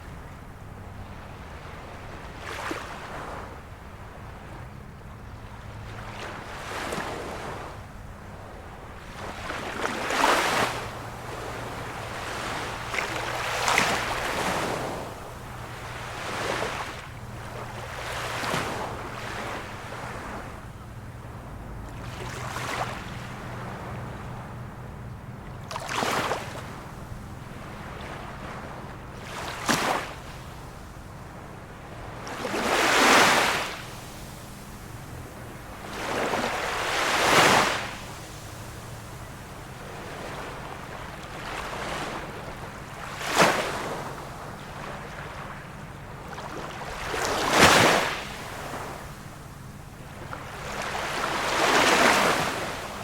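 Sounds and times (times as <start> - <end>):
faint steady hum: 0.0 - 53.0
small waves washing ashore: 0.0 - 53.0.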